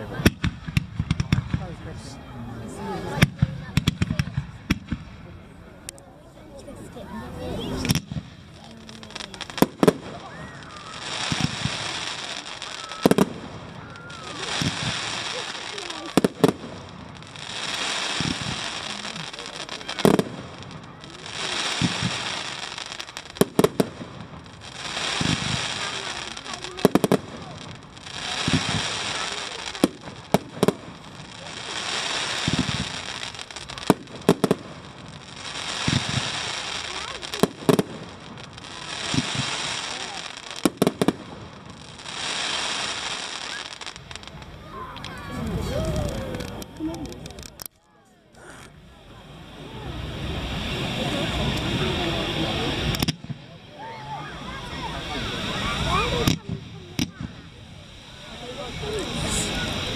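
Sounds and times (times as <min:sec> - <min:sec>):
fireworks crackling: 0:00.0 - 0:59.9
sharp firework bangs: 0:00.2 - 0:01.8, 0:03.1 - 0:05.3, 0:07.8 - 0:47.4, 0:49.6 - 0:53.6, 0:54.6 - 0:59.9.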